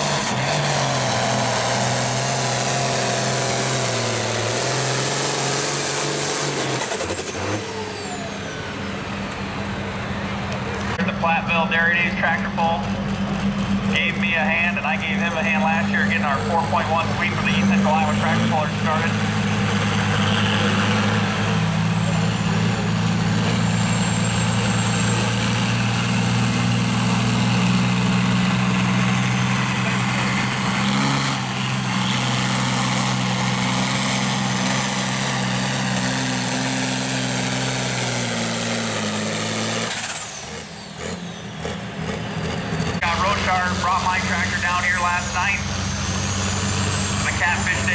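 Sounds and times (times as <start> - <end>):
tractor engine drone: 0.0 - 47.9.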